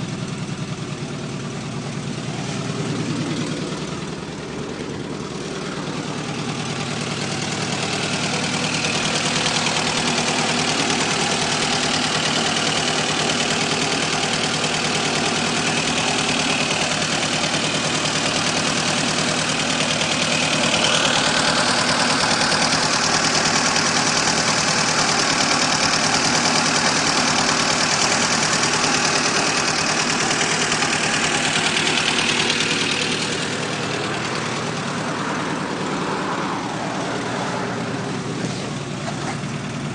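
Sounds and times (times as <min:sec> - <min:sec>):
car engine knocking: 0:00.0 - 0:39.9.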